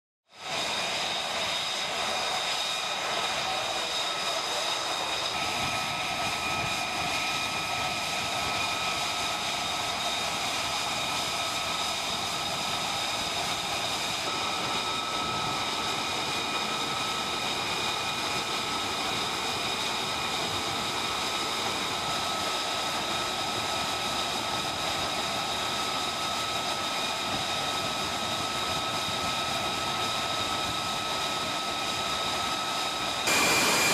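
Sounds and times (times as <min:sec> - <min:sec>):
jet engine running with turbine whine: 0:00.3 - 0:33.9.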